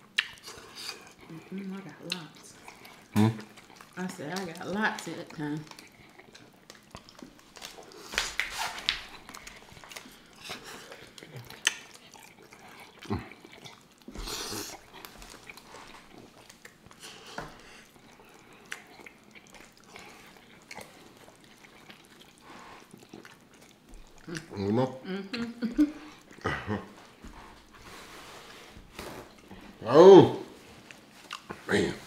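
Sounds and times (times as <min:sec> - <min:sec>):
chewing and biting food: 0:00.0 - 0:29.8, 0:30.6 - 0:32.0.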